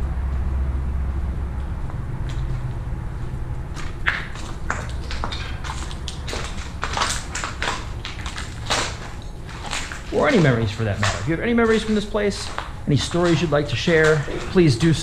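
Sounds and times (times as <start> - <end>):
low steady rumble: 0.0 - 15.0
footsteps crunching over debris: 2.3 - 15.0.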